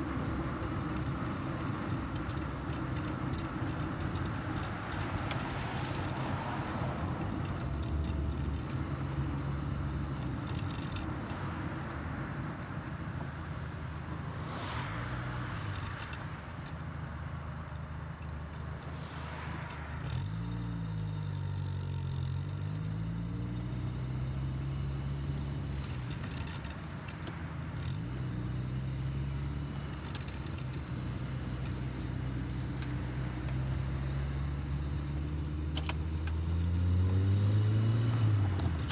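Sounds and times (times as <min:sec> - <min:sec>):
car engine driving slowly: 0:00.0 - 0:38.9.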